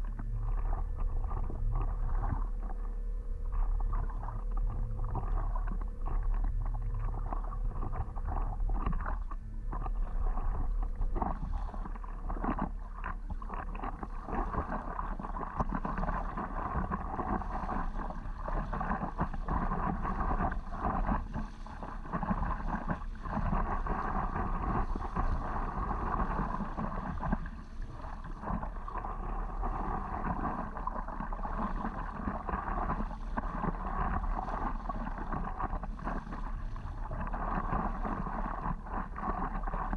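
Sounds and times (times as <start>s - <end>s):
water splashing and lapping: 0.0s - 39.9s
wind rumbling on microphone: 0.0s - 39.9s.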